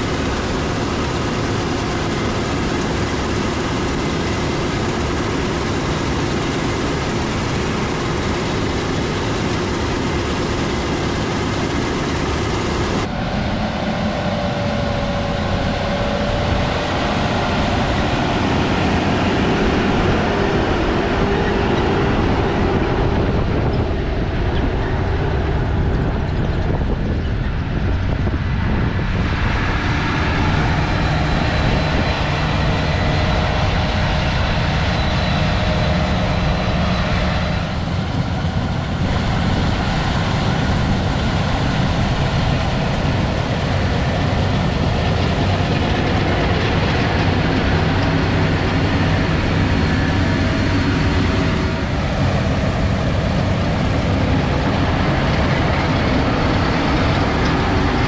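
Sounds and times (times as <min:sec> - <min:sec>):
diesel harvester rumbling: 0:00.0 - 0:58.0.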